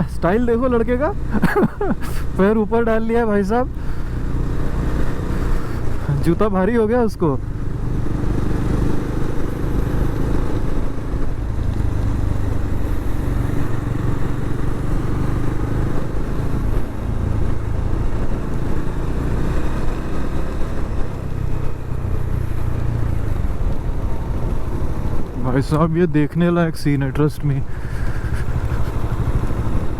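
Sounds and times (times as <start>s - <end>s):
motorcycle engine running: 0.0s - 25.8s, 27.6s - 29.9s.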